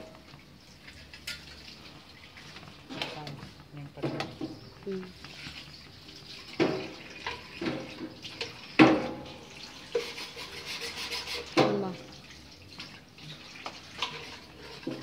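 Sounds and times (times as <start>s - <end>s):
liquid being stirred: 0.0s - 15.0s.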